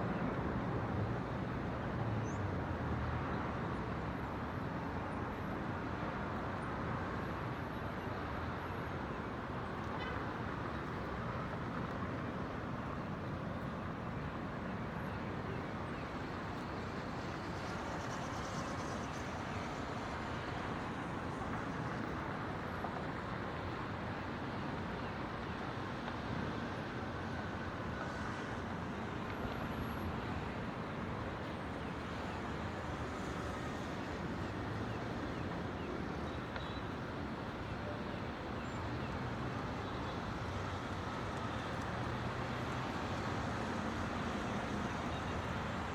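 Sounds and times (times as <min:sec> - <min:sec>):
distant city traffic hum: 0:00.0 - 0:45.9.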